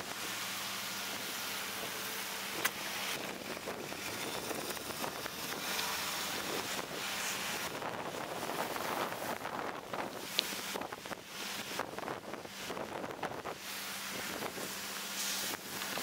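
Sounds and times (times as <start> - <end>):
wind rushing over microphone: 1.1 - 16.0.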